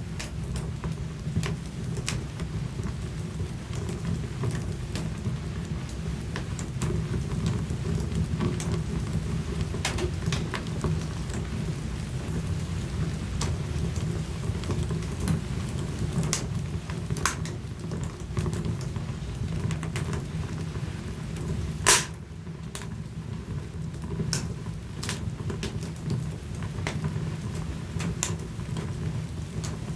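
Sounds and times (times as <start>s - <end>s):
fireplace flames rumbling: 0.0s - 29.9s
wood fire crackling and snapping: 0.0s - 29.9s.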